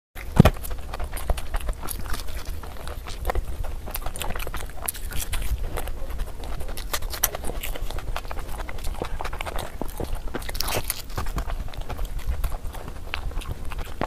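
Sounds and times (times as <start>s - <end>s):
chewing with mouth clicks: 0.2s - 14.0s
low steady hum: 0.2s - 14.0s.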